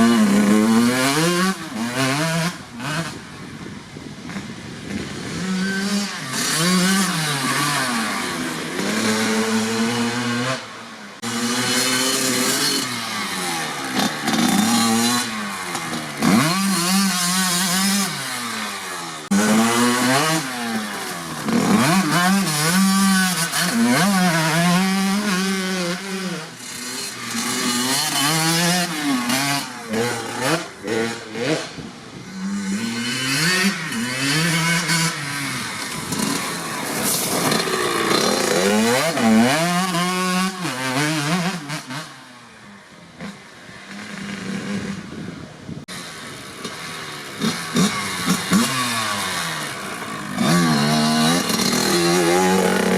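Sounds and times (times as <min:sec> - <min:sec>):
dirt bike engine revving: 0:00.0 - 0:03.4, 0:04.2 - 0:42.5, 0:43.2 - 0:52.9.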